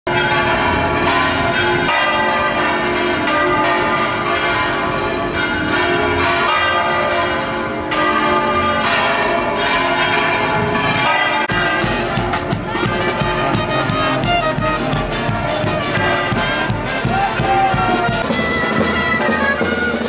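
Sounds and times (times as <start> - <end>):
church bells ringing: 0.1 - 20.0.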